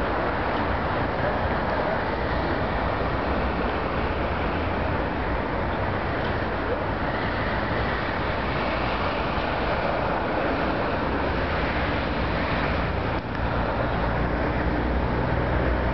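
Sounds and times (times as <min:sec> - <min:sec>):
traffic rumble and hiss: 0:00.0 - 0:15.9.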